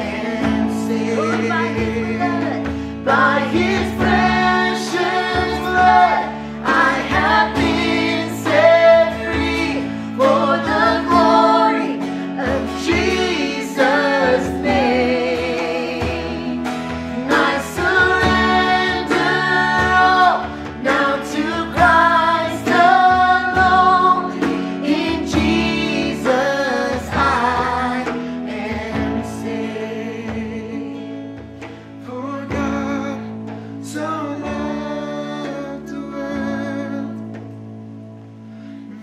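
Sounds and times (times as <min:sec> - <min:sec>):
people singing: 0:00.0 - 0:37.4
worship band playing live: 0:00.0 - 0:39.0.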